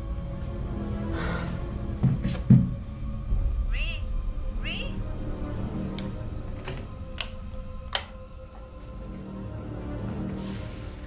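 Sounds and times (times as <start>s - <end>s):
dark tense score with drone: 0.0s - 2.0s, 2.7s - 11.0s.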